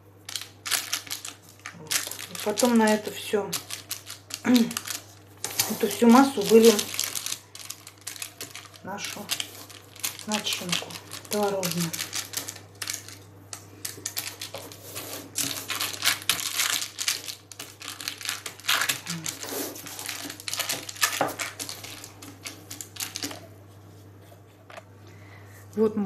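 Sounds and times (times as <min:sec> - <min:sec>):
baking paper crinkling: 0:00.2 - 0:24.8.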